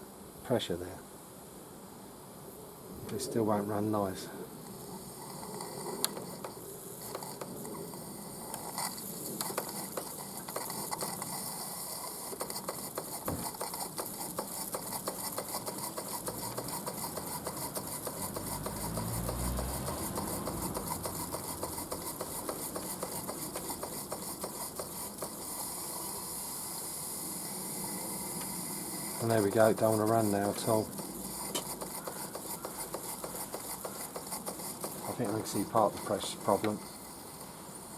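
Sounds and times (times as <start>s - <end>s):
steam hiss: 3.1s - 37.9s
steam engine rapid uneven ticking: 6.0s - 37.9s.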